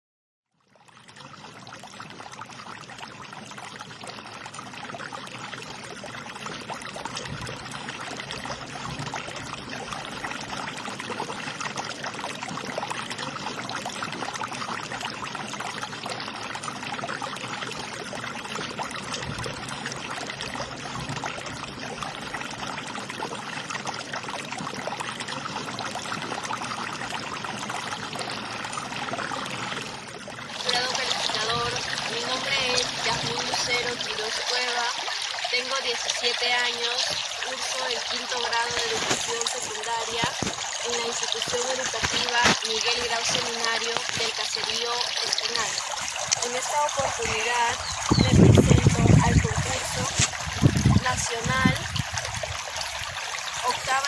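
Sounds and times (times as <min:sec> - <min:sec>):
running water rushing: 0:00.9 - 0:54.0.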